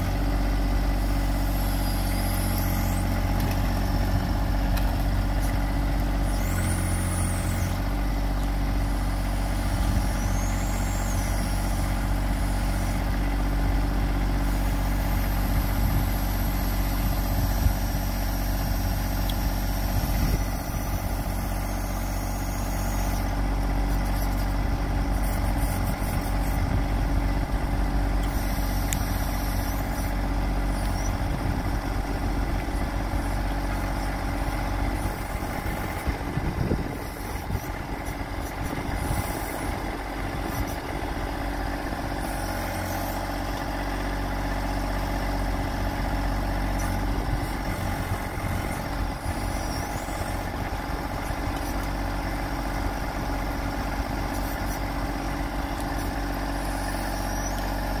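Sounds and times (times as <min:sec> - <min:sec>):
backhoe hydraulics: 0:00.0 - 0:58.0
tractor diesel engine running: 0:00.0 - 0:58.0.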